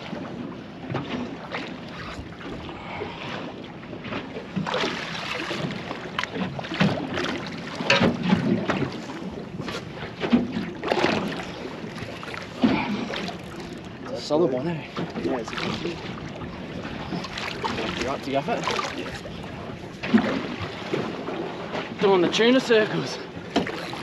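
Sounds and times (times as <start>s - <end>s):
water lapping against boat: 0.0s - 24.0s.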